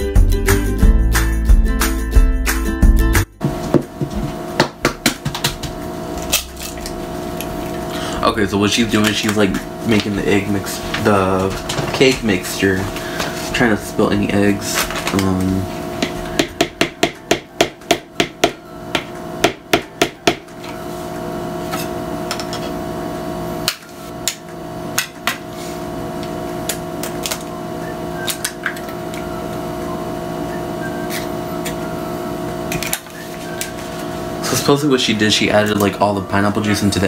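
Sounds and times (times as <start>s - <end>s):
steady hum: 3.0s - 37.0s.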